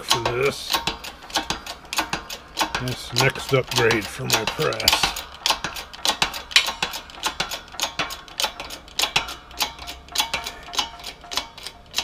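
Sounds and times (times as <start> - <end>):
hydraulic jack pumping clicks: 0.0 - 12.0.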